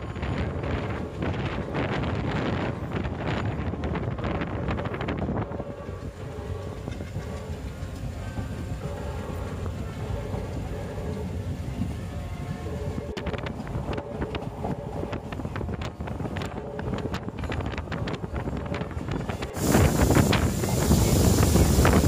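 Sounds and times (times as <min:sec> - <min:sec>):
train rumbling along track: 0:00.0 - 0:22.0
wind noise on microphone: 0:00.0 - 0:22.0.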